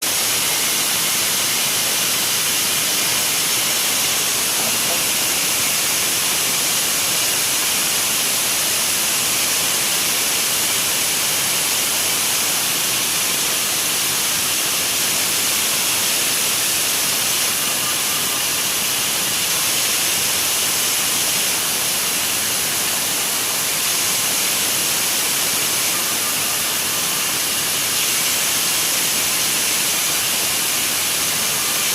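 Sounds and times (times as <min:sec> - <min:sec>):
steady high hiss: 0:00.1 - 0:31.9.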